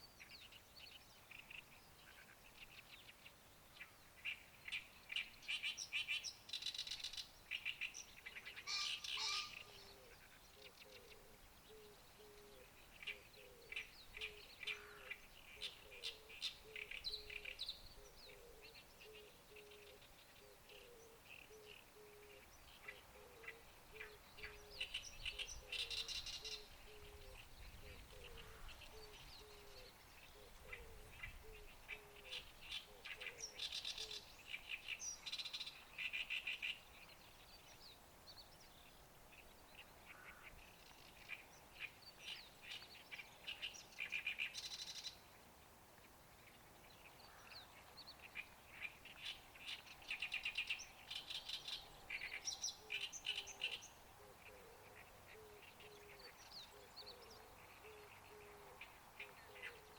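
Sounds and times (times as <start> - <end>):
faint low bird calls: 0.0 - 45.4, 46.0 - 59.9
songbirds chattering song: 0.0 - 59.9.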